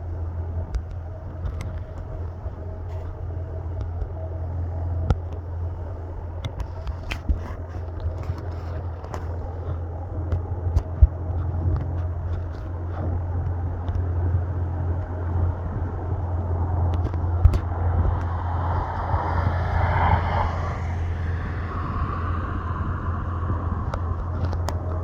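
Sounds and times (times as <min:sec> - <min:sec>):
jet airliner engine noise: 0:00.0 - 0:25.0
steady low rumble: 0:00.0 - 0:25.0.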